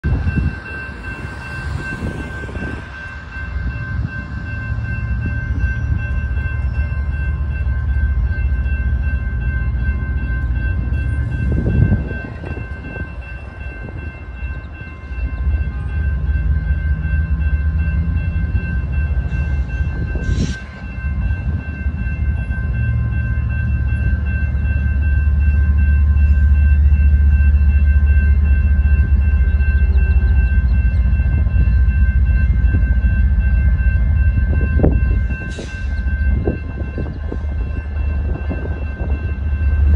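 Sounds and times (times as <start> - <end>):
railroad crossing bell ringing: 0.0 - 39.9
train rumbling: 0.0 - 39.9.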